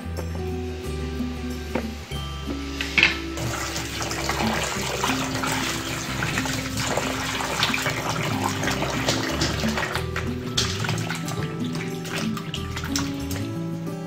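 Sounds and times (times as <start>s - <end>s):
background music: 0.0s - 14.0s
hands stirring pumpkin pieces: 0.3s - 13.6s
water splashing into plastic bowl: 1.0s - 13.6s.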